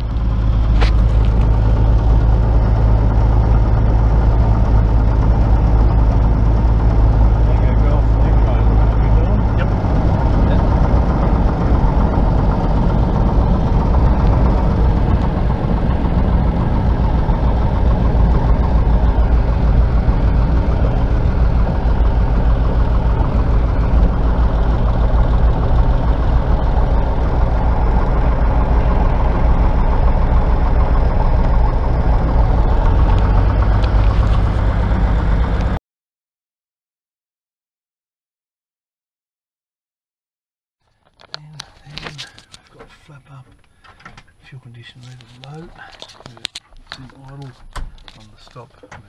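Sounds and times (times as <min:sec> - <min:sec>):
aircraft engine and propeller: 0:00.0 - 0:35.8, 0:41.1 - 0:49.0.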